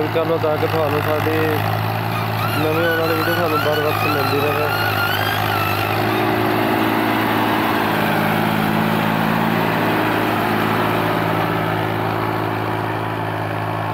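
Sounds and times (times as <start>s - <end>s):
tractor diesel engine under load: 0.0s - 13.9s.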